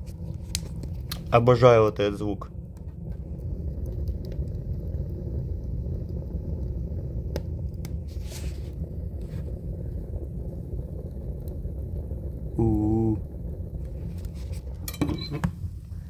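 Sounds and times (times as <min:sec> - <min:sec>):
fire crackles and ticks: 0:00.0 - 0:15.0
wood stove fire rumbling: 0:00.0 - 0:16.0.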